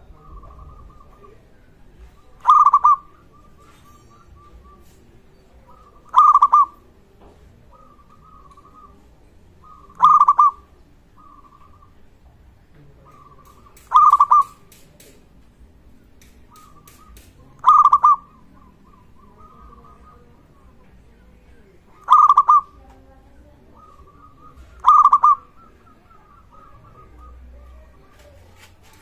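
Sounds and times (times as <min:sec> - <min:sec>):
dove cooing: 0:00.0 - 0:12.1, 0:12.8 - 0:14.8, 0:16.5 - 0:29.0.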